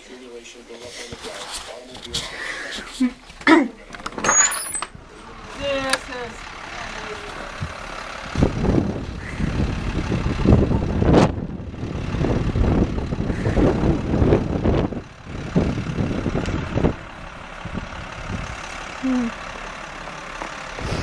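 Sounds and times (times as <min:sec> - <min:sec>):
heavy truck engine surging: 0:00.4 - 0:21.0.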